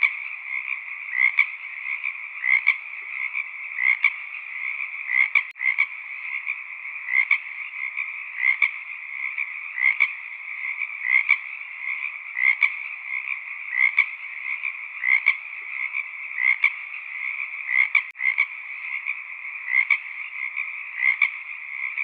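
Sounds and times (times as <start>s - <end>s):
frogs chorus: 0.0s - 22.0s
loud frog call: 0.0s - 22.0s.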